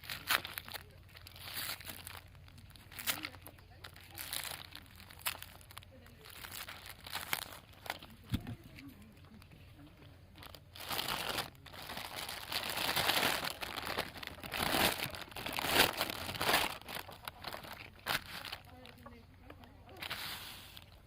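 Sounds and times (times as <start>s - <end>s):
plastic wrapping crinkling: 0.0s - 21.0s.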